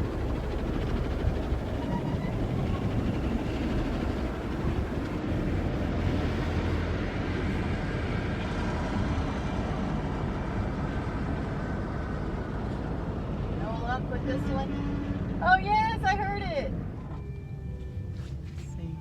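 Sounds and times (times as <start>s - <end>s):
passing traffic: 0.0s - 19.0s
road and engine noise inside car: 0.0s - 19.0s.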